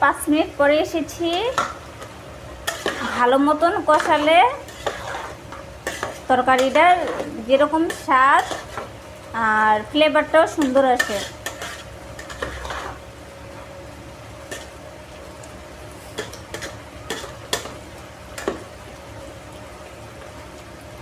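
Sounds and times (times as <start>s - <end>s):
vegetables sizzling: 0.0s - 21.0s.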